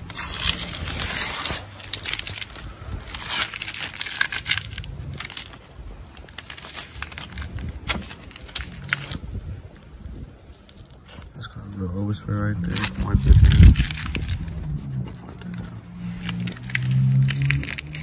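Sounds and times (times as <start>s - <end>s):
small clicks and scrapes: 0.0s - 9.9s, 12.7s - 18.0s
rustling crinkling handling noise: 0.0s - 14.6s, 15.2s - 18.0s.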